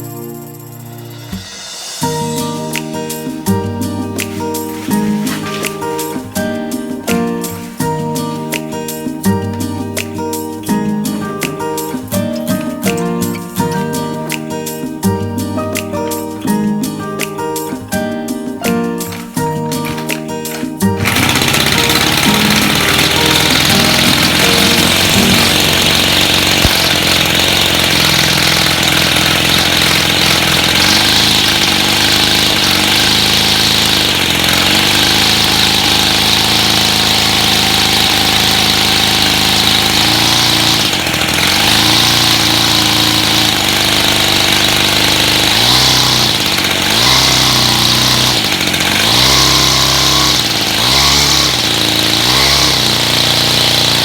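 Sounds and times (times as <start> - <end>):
brush cutter engine revving: 0.9 - 15.0, 19.0 - 54.0.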